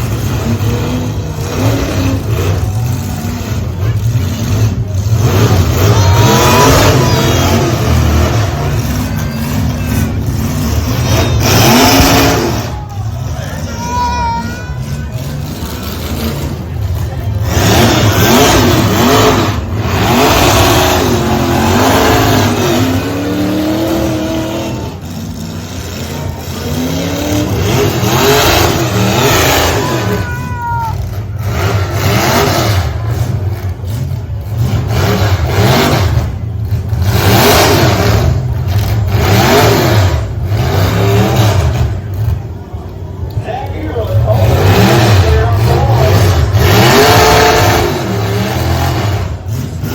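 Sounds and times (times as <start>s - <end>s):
truck engines revving hard: 0.0s - 49.9s.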